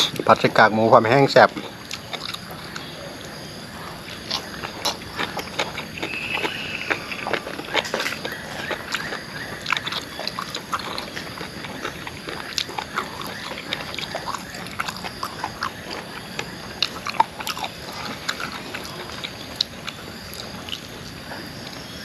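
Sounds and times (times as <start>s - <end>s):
wet chewing and lip smacking: 1.5s - 21.9s.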